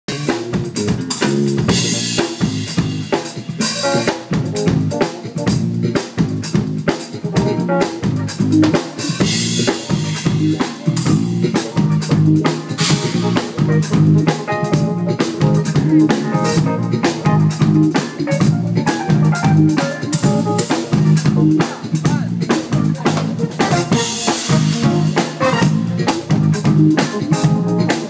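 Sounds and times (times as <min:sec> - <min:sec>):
bass line: 0:00.1 - 0:28.0
funk band playing: 0:00.1 - 0:28.0.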